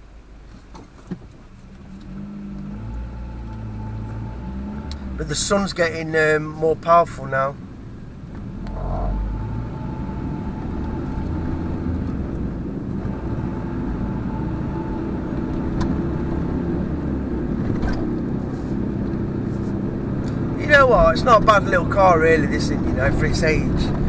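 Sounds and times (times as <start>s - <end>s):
car engine from inside cabin: 0.0s - 24.0s
road noise: 0.0s - 24.0s.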